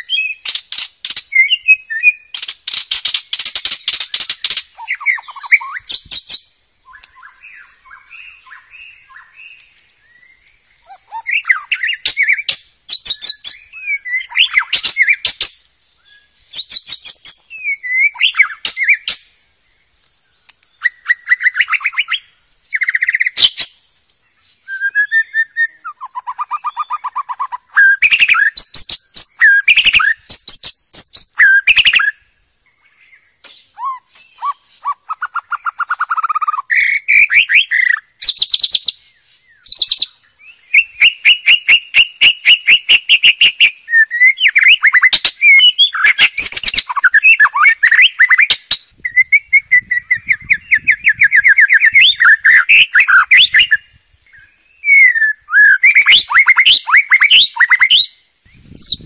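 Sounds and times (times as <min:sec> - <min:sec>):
shama bird singing: 0:00.0 - 0:59.0.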